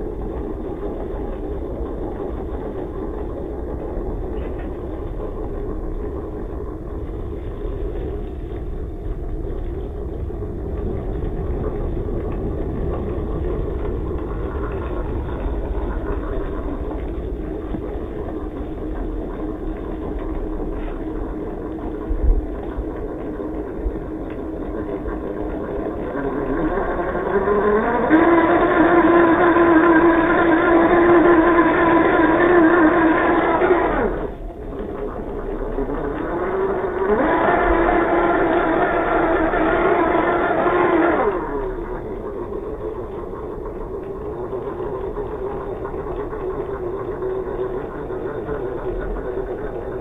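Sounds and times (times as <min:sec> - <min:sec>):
electric motor and gearbox whine: 0:00.0 - 0:50.0.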